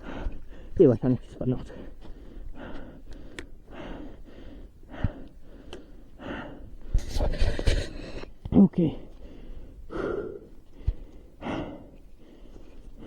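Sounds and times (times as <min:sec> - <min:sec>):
man breathing hard: 0:00.0 - 0:00.8, 0:01.7 - 0:13.0.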